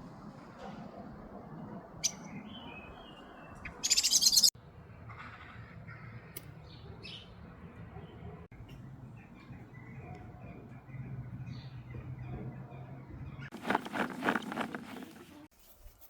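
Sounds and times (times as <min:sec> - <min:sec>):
small birds chirping: 0:00.4 - 0:04.6, 0:05.6 - 0:15.5.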